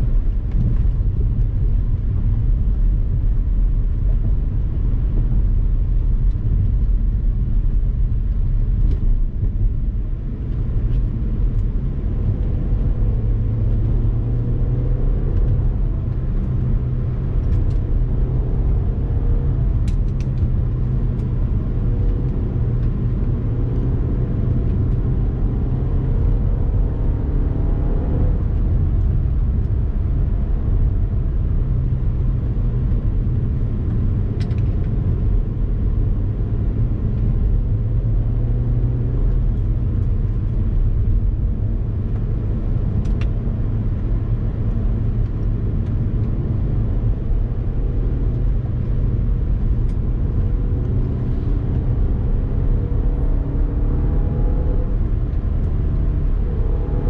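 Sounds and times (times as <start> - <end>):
car engine driving: 0.0 - 57.0
heavy low rumble: 0.0 - 57.0.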